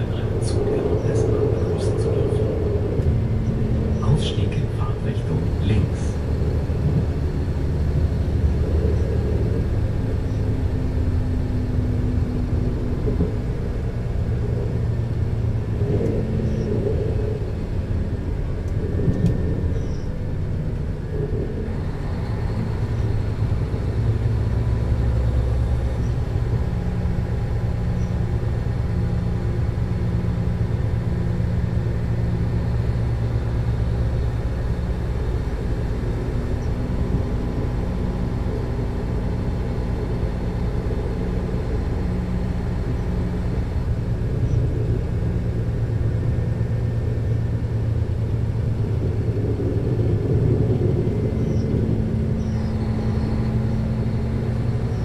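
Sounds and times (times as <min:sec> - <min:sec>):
diesel train engines idling: 0:00.0 - 0:55.0.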